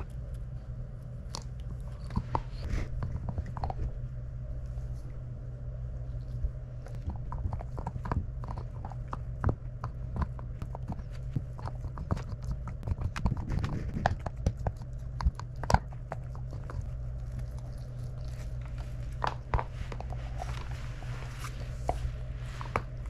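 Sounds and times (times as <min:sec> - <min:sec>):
dog gnawing a bone: 0:00.0 - 0:05.2, 0:05.8 - 0:23.0.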